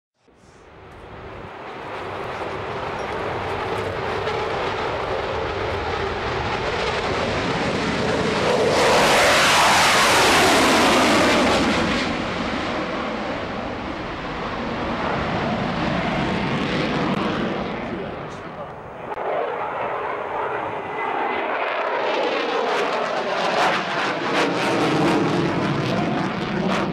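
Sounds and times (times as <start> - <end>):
jet engines roaring: 0.3 - 26.9.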